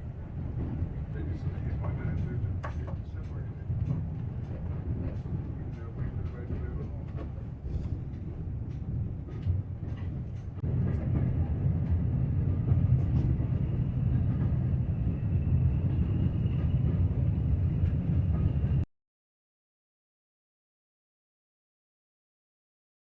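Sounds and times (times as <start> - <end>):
train rumbling: 0.0 - 18.9.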